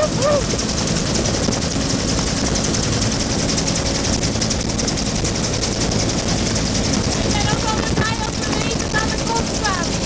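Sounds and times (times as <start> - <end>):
helicopter turbine and rotor noise: 0.0 - 10.0
rotor blades chopping: 0.0 - 10.0.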